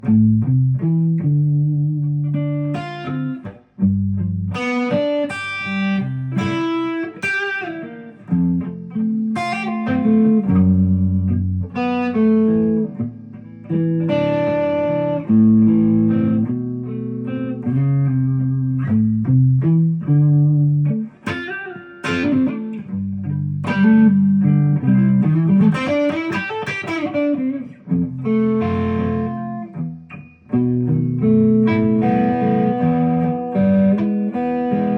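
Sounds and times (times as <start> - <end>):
electric guitar through an amp: 0.0 - 34.9.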